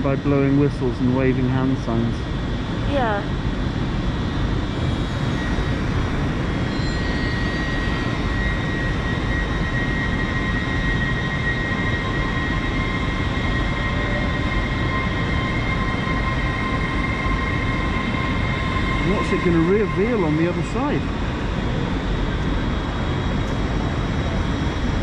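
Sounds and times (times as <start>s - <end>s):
lower electric whine: 0.0s - 25.0s.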